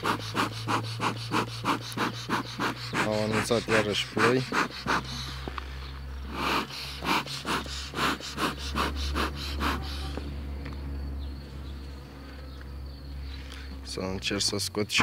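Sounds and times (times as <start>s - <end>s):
bees humming: 0.0s - 13.6s.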